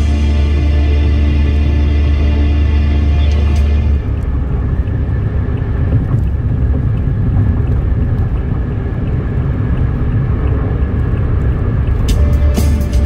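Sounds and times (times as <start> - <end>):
car driving on wet highway: 0.0 - 13.0.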